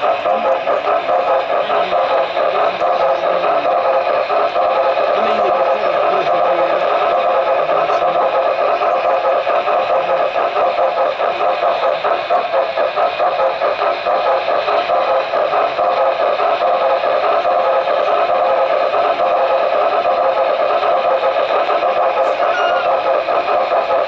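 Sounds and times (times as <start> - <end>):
model train hum and rattle: 0.0 - 24.0.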